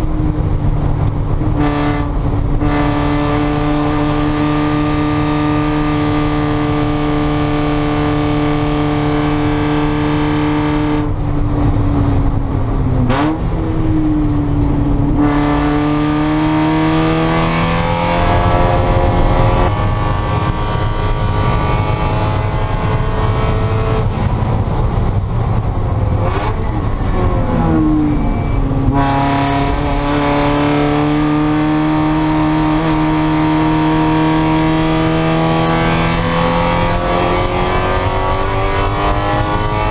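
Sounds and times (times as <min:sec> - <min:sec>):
engine throttle blips: 0:00.0 - 0:39.9
race car engine revving: 0:00.0 - 0:39.9.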